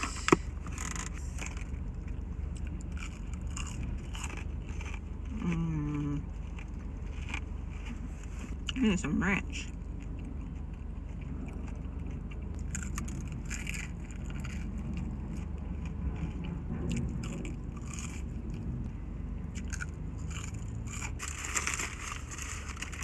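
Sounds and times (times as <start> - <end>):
chewing crunchy food: 0.0 - 8.8, 9.7 - 18.9, 19.5 - 23.0.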